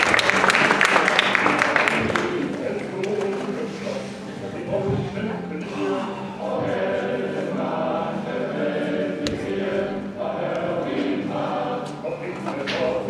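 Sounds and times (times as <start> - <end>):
group of voices singing: 1.8 - 13.0.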